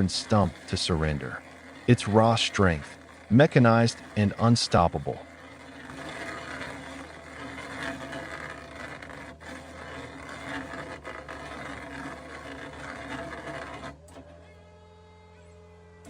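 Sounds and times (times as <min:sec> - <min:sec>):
rough grinding and rustling: 0:00.0 - 0:14.0.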